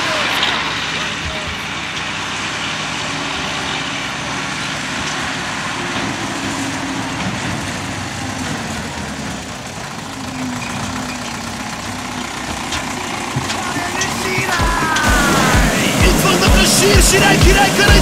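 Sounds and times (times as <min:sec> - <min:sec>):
tractor diesel engine passing: 0:00.0 - 0:18.0.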